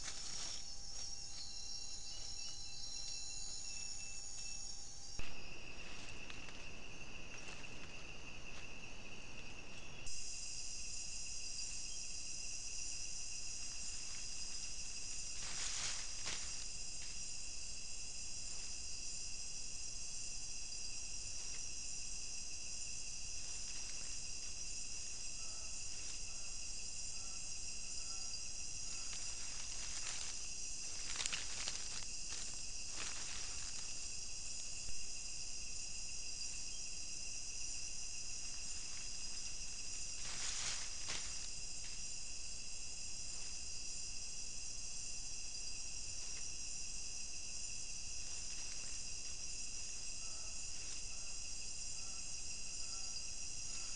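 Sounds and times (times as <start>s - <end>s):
crickets and insects trilling: 0.0s - 53.9s.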